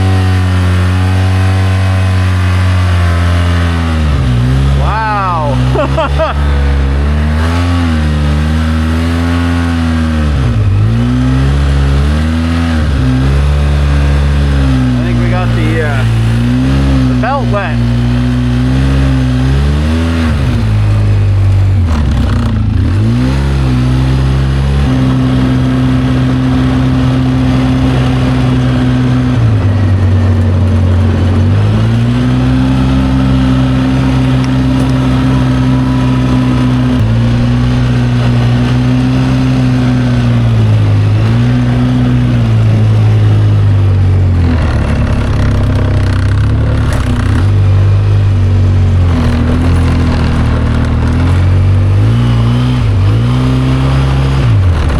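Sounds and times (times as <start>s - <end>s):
small engine revving: 0.0s - 54.9s.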